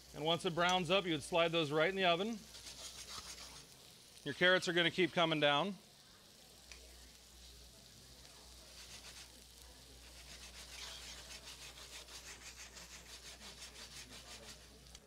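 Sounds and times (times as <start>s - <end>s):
meat sizzling faintly in butter: 0.0s - 15.0s.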